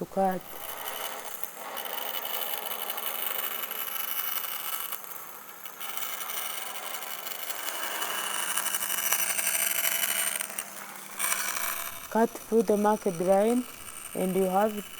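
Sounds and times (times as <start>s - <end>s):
bandsaw cutting plywood: 0.0s - 5.1s, 5.8s - 14.9s.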